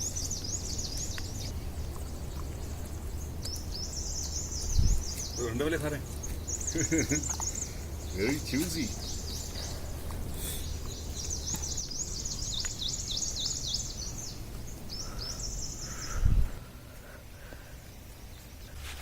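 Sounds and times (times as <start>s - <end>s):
low rumble of wind or handling: 0.0s - 19.0s
songbird singing: 0.0s - 19.0s.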